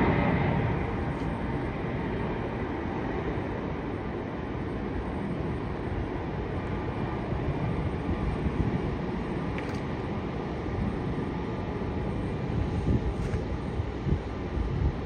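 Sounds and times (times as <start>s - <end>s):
jet aircraft engine rumble: 0.0s - 15.0s.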